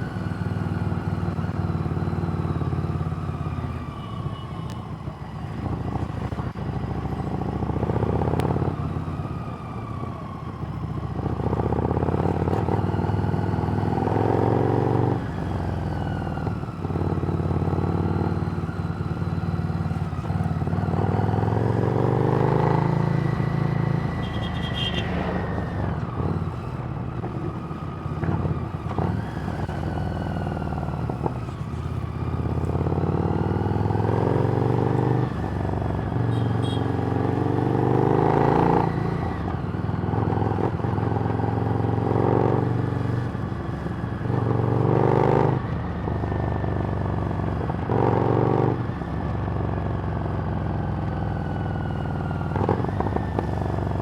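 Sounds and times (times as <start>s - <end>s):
motorcycle engine revving: 5.5s - 46.2s, 49.6s - 54.0s.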